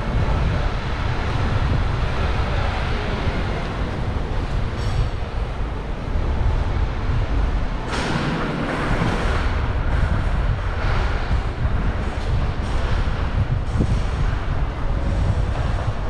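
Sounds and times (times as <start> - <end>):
low rumble of vehicle traffic: 0.0 - 16.0.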